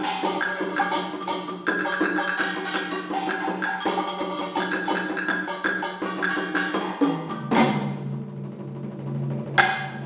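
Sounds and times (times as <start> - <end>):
percussion stick strikes: 0.0 - 8.2, 9.6 - 10.0.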